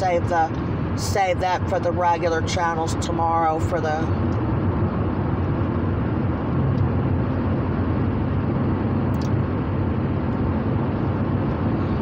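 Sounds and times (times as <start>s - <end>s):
car interior rumble and hiss: 0.0s - 12.0s.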